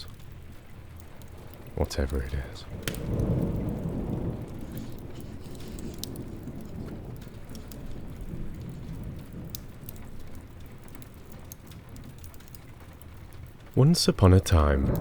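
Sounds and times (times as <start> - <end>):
rolling rumble of thunder: 0.0 - 15.0
steady rain: 0.0 - 15.0
wood fire crackling: 0.0 - 15.0.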